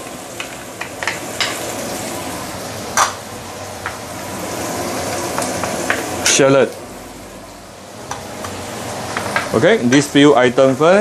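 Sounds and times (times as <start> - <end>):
oil sizzling in a wok: 0.0 - 11.0.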